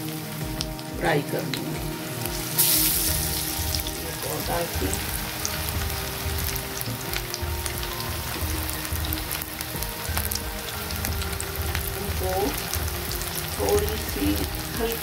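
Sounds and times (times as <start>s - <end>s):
food shallow-frying in oil: 0.0s - 15.0s.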